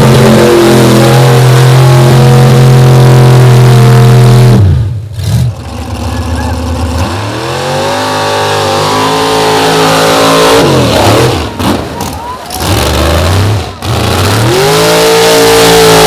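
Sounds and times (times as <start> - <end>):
truck engine high revving: 0.0 - 16.0.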